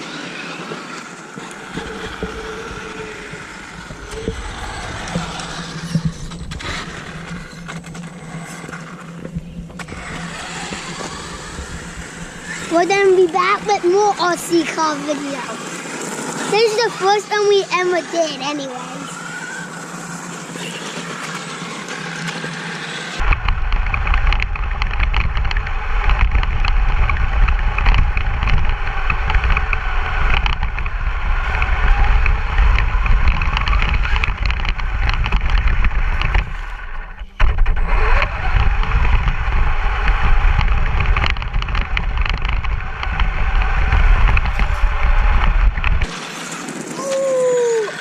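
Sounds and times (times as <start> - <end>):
toy truck motor rumbling: 0.0 - 48.0.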